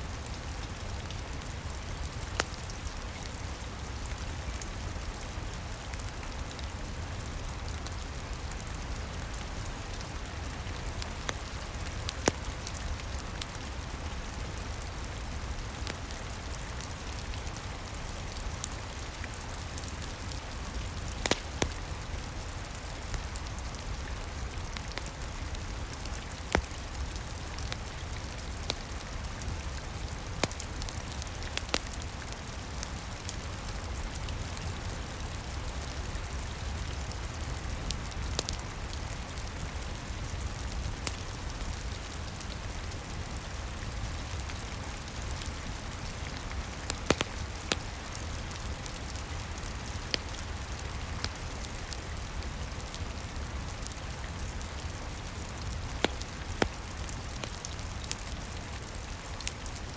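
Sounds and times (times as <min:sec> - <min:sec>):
steady rain: 0:00.0 - 0:59.9
wood fire crackling and popping: 0:00.1 - 0:59.9.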